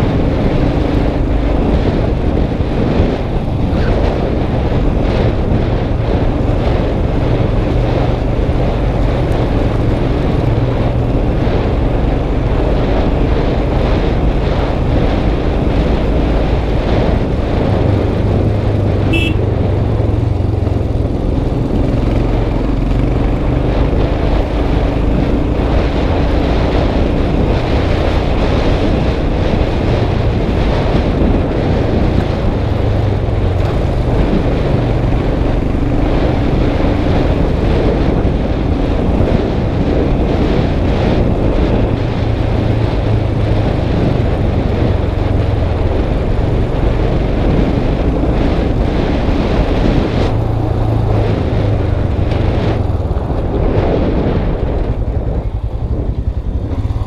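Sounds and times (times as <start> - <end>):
motorcycle engine running: 0.0 - 57.0
noisy wind rush: 0.0 - 57.0.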